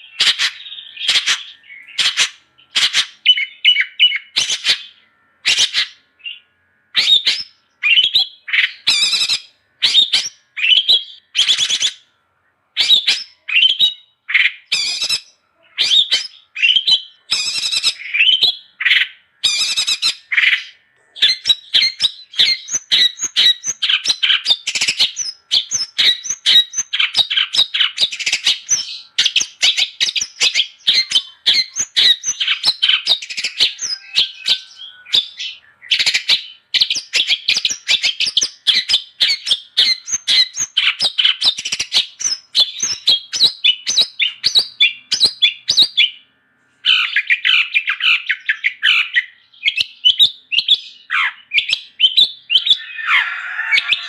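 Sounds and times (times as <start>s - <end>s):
shrike singing: 0.0s - 46.3s, 46.9s - 54.0s.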